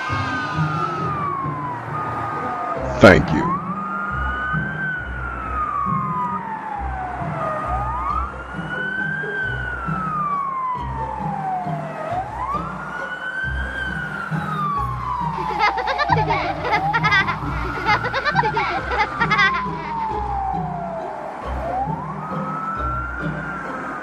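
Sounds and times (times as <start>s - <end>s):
wailing police siren: 0.0s - 24.0s.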